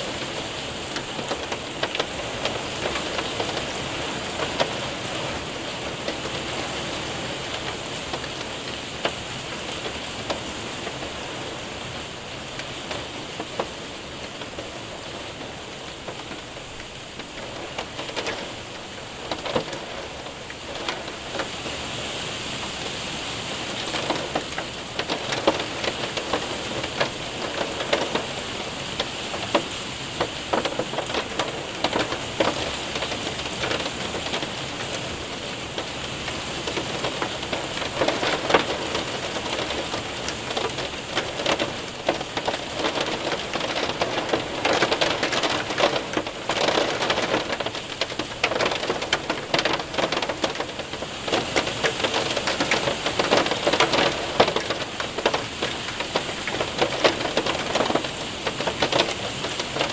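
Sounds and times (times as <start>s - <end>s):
rain and hail on window and roof: 0.0s - 59.9s.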